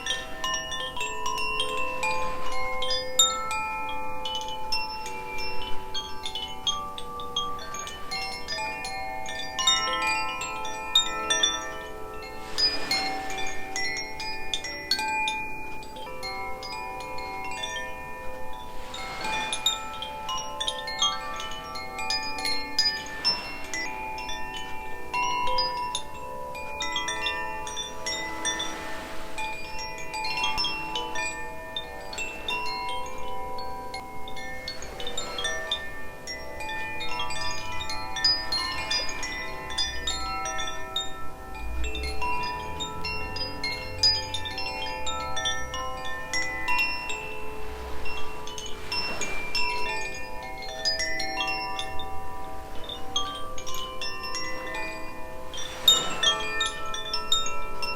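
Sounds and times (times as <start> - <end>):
wind chimes ringing: 0.0 - 57.9.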